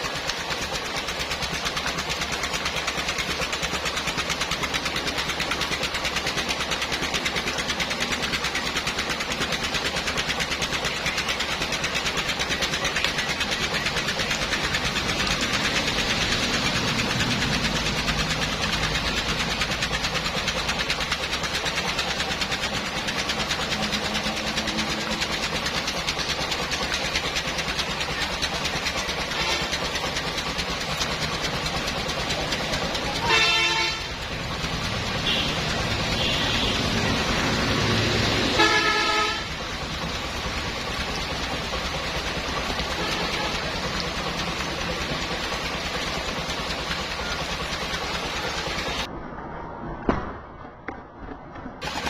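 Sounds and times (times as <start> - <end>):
vehicle engine running: 0.0 - 49.2, 50.5 - 52.0.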